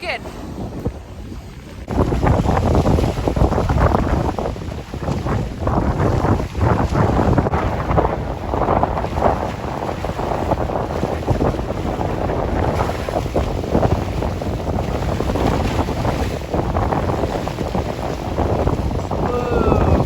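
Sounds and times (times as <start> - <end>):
wind blowing across microphone: 0.0 - 20.0.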